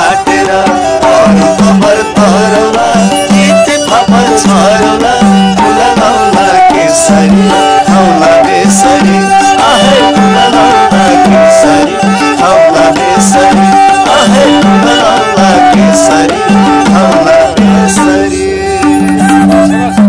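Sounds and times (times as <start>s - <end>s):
bowed string melody: 0.0s - 20.0s
man singing: 0.0s - 20.0s.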